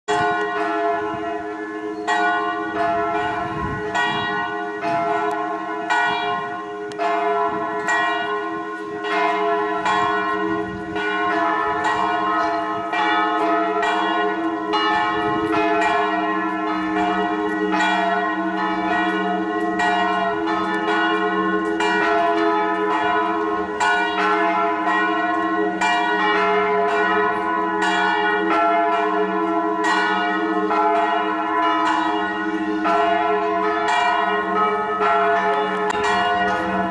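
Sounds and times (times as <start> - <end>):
church bells ringing: 0.1 - 36.9.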